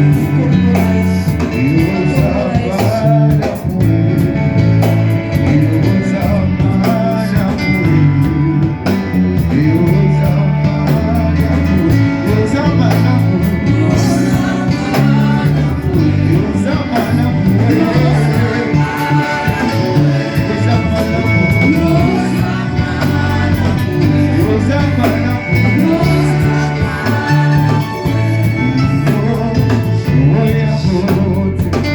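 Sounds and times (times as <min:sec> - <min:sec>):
guitar and bass with beat: 0:00.0 - 0:31.9
person singing: 0:00.0 - 0:31.9.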